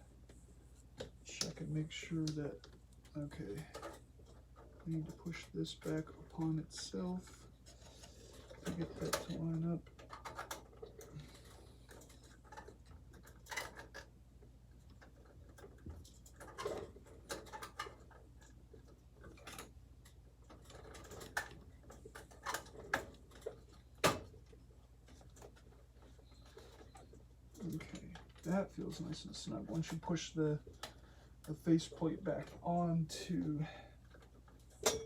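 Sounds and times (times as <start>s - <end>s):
steady low hum: 0.0s - 35.0s
light clicks and taps: 0.2s - 35.0s.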